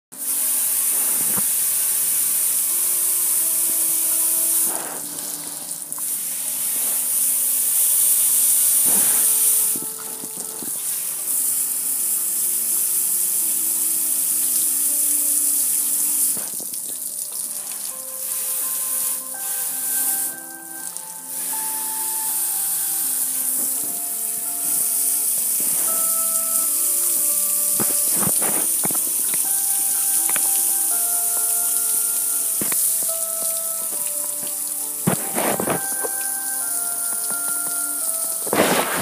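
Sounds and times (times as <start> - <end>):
hose water spraying on grill: 0.2 - 39.0.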